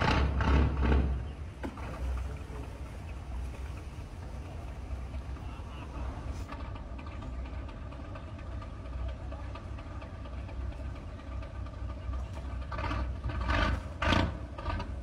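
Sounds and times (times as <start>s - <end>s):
boat diesel engine rumbling: 0.0s - 15.0s.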